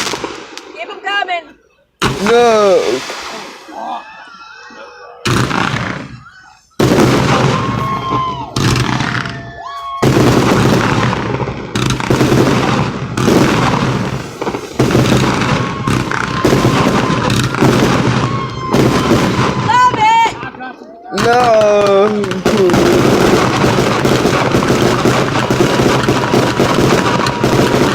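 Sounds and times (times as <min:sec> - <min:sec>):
firework booms: 0:00.0 - 0:00.8, 0:02.0 - 0:04.1, 0:05.2 - 0:20.4, 0:21.2 - 0:27.9
firework whistling: 0:02.0 - 0:20.0, 0:22.3 - 0:27.9.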